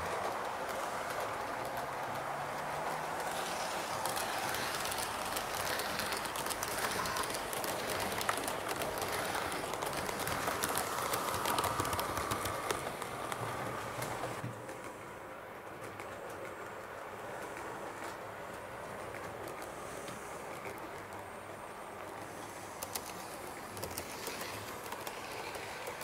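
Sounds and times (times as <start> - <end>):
model train whirring and rumbling: 0.0 - 26.0
wheels clicking over rail joints: 0.0 - 26.0.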